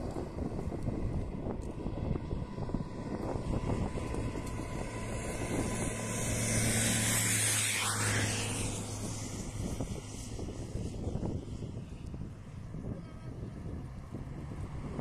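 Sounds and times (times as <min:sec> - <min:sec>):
vehicle passing by: 0:00.0 - 0:15.0
wind gusting on microphone: 0:00.0 - 0:15.0.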